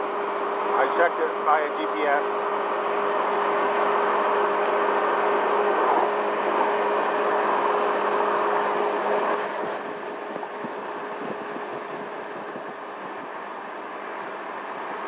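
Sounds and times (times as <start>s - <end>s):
scooter engine hum: 0.0s - 15.0s.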